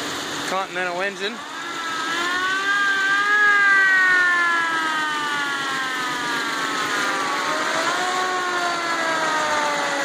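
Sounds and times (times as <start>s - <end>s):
mechanical siren winding down: 1.2s - 10.0s.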